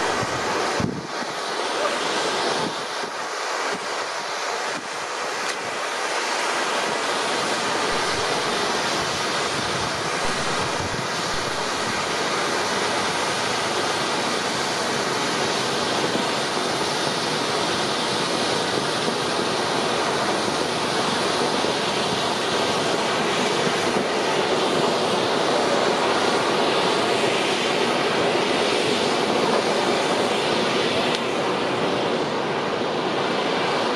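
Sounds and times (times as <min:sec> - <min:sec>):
firework fountains hissing: 0:00.0 - 0:33.9.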